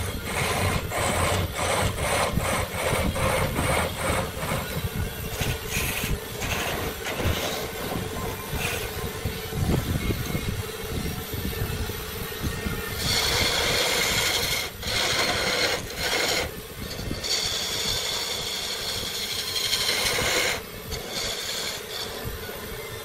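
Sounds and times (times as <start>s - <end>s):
electric tool motor hum: 0.0s - 23.0s
high-pitched tool cutting wood: 0.0s - 23.0s.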